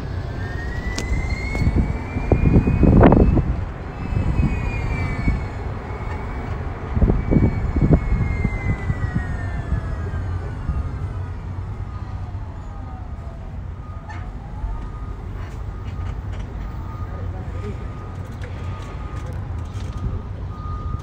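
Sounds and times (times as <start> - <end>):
electric cart drive whine: 0.0 - 17.2
wind and road rumble: 0.0 - 21.0.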